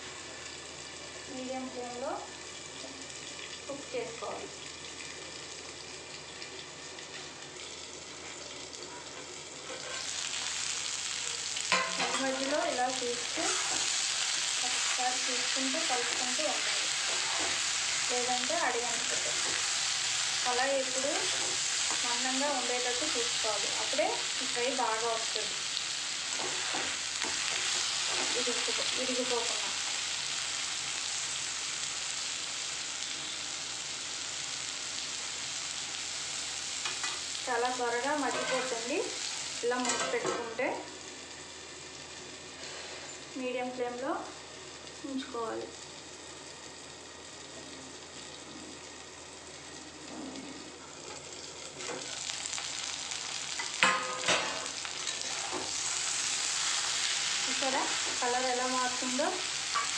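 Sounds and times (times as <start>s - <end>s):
banana slices sizzling in oil: 0.0s - 59.9s.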